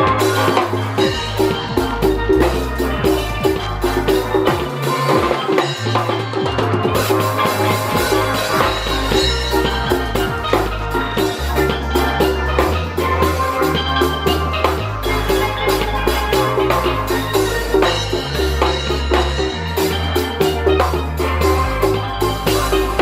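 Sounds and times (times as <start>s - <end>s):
bass line: 0.0s - 23.0s
drum kit: 0.0s - 23.0s
steelpan music: 0.0s - 23.0s.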